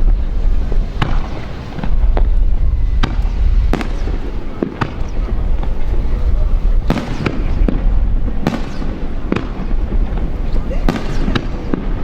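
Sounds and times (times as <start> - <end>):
low rumble: 0.0 - 11.0
fireworks bangs: 0.0 - 12.0.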